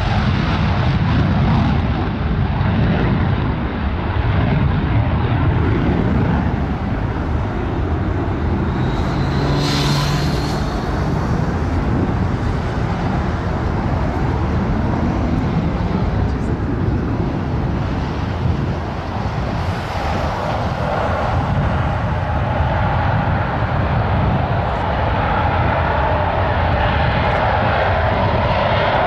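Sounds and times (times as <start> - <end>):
airplane engine roar: 0.0 - 29.0.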